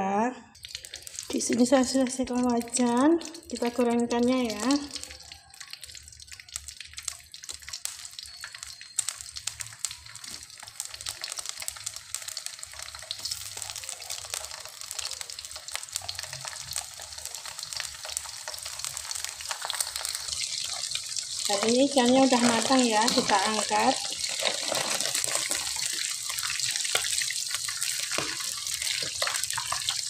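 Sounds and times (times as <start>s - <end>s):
oil sizzling in a wok: 0.6s - 30.0s.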